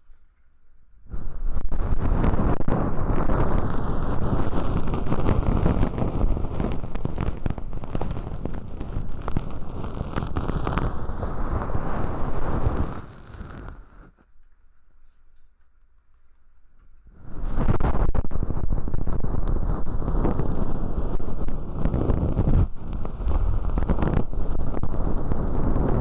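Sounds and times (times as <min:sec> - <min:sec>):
crackling and rustling in microphone: 0:00.0 - 0:26.0.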